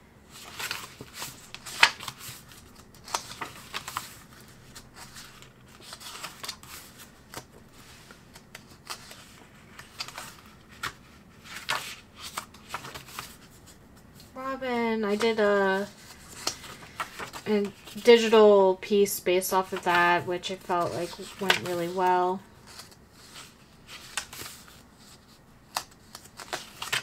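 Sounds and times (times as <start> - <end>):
paper pages rustling and flapping: 0.3 - 14.4, 15.1 - 18.4, 19.6 - 27.0.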